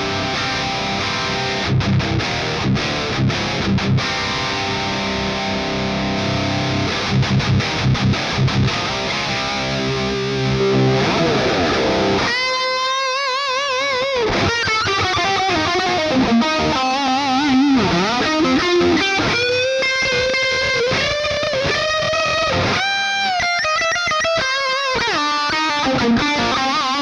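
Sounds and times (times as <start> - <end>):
distorted electric guitar lead: 0.0 - 27.0.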